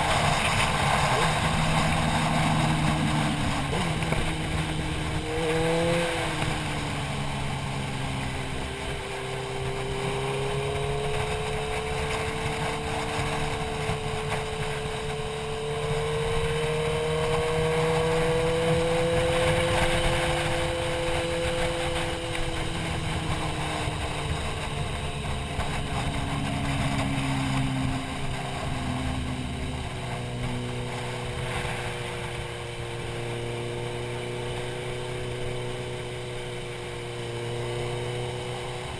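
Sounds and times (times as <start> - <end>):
wind rush: 0.0 - 34.6
motorcycle engine running: 0.0 - 38.9.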